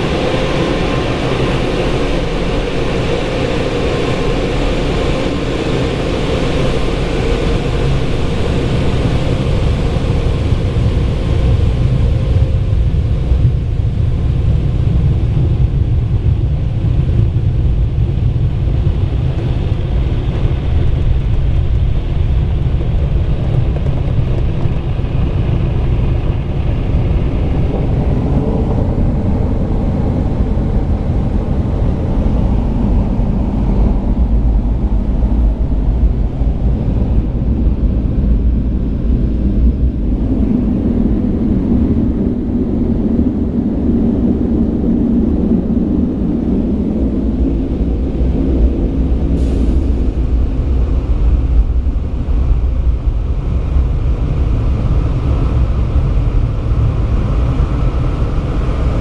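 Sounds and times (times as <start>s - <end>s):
car wash machinery rumbling: 0.0s - 59.0s.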